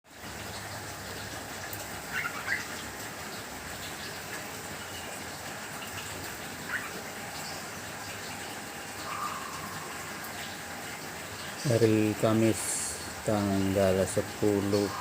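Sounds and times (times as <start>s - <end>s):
steady rain hiss: 0.1s - 15.0s
small caged birds chirping: 0.5s - 15.0s.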